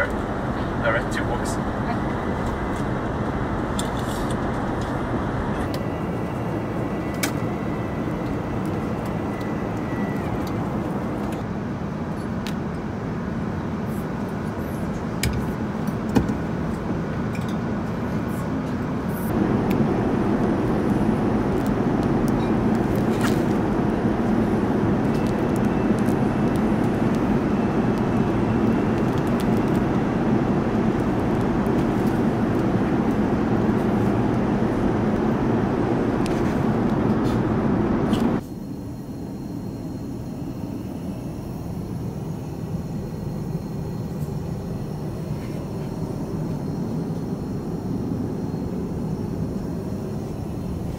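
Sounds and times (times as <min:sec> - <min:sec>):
aircraft cabin rushing hum: 0:00.0 - 0:50.9.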